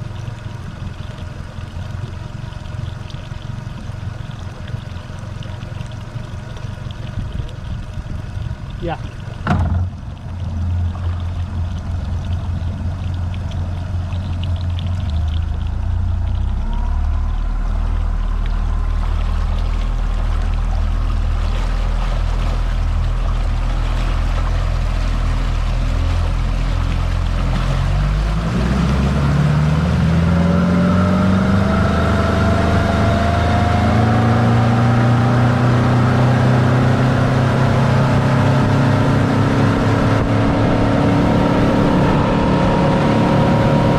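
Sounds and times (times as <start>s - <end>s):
outboard motor running: 0.0s - 43.9s
water rushing past boat: 0.0s - 43.9s.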